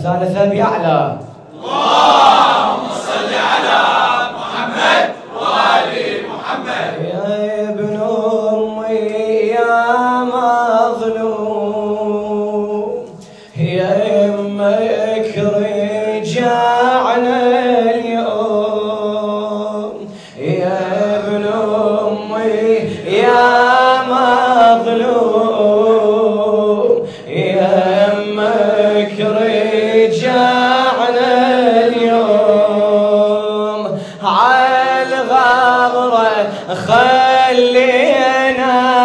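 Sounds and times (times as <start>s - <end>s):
person chanting a lament: 6.2s - 39.0s.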